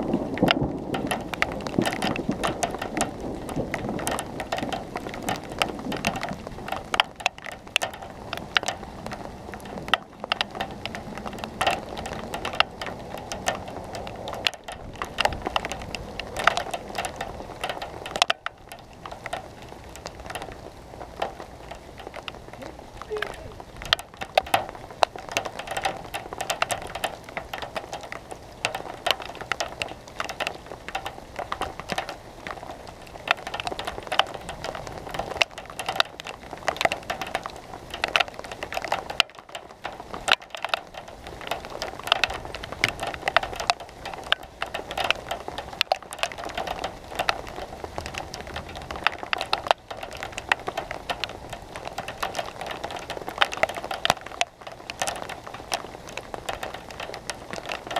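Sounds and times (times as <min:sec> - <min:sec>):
rain pattering: 0:00.0 - 0:57.9
raindrops ticking near microphone: 0:00.0 - 0:57.9.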